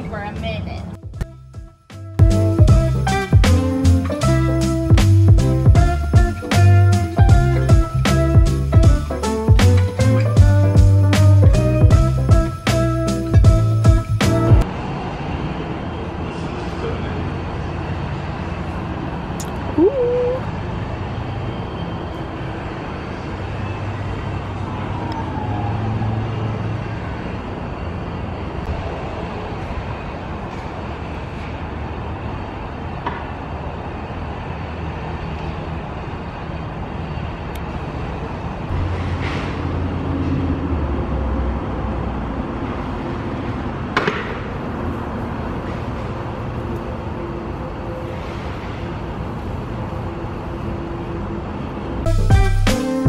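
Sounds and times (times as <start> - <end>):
low traffic rumble: 0.0 - 53.0.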